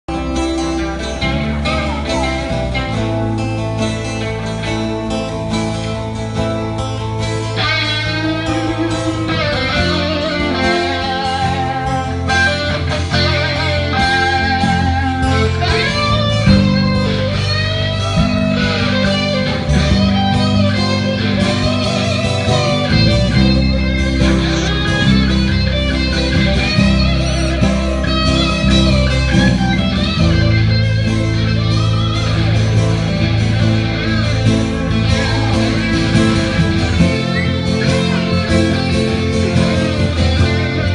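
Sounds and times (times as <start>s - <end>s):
electric guitar lead with bent notes: 0.0s - 40.9s
sustained bass notes: 0.0s - 40.9s.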